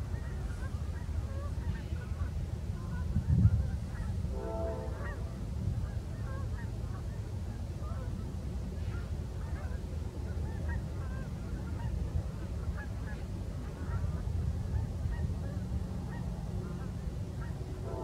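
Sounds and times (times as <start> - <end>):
geese honking: 0.1 - 7.2, 8.8 - 18.0.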